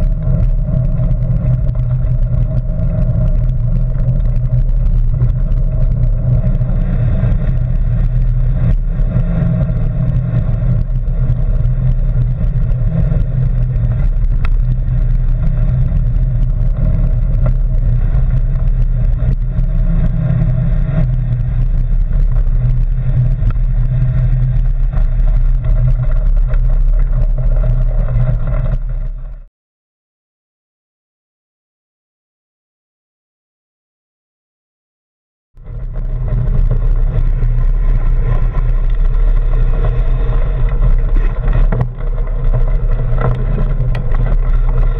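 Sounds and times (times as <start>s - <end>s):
wind buffeting: 0.0s - 29.0s, 35.6s - 44.9s
bicycle tyres on path: 0.0s - 29.5s, 35.6s - 44.9s
bike vibration rumble: 0.0s - 29.5s, 35.6s - 44.9s.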